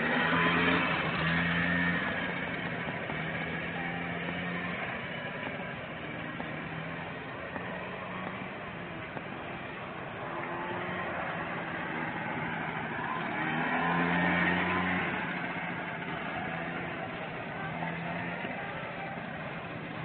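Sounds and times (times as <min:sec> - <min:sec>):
small engine humming: 0:00.0 - 0:20.0.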